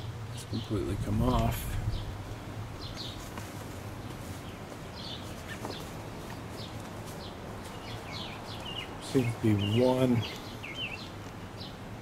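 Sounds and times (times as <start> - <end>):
low outdoor background noise: 0.0 - 12.0
small birds chirping: 0.0 - 12.0.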